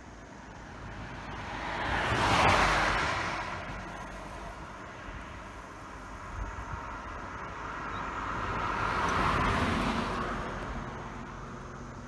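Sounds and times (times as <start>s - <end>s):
car passing by: 0.4s - 12.0s.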